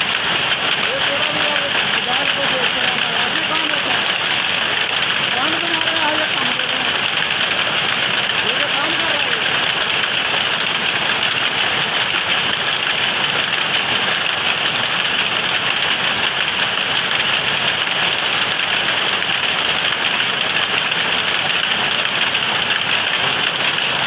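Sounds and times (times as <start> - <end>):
power looms clattering: 0.0 - 24.0.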